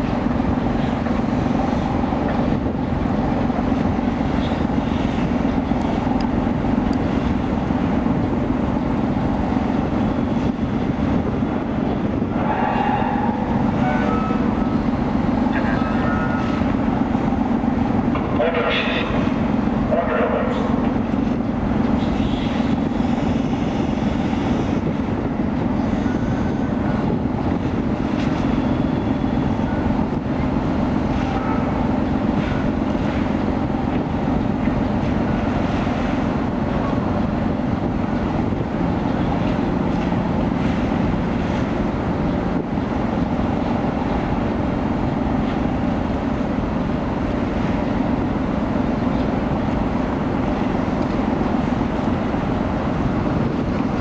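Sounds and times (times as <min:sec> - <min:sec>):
ship engines droning: 0:00.0 - 0:54.0.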